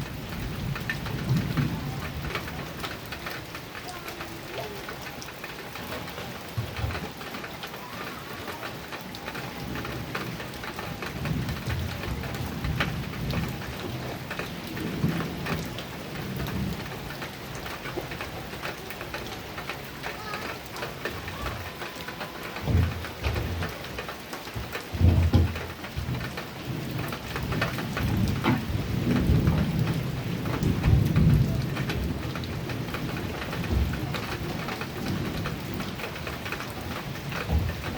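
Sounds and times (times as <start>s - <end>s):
thunder rumbling: 0.0s - 4.7s, 9.2s - 37.9s
heavy rain on a metal roof: 0.0s - 37.9s.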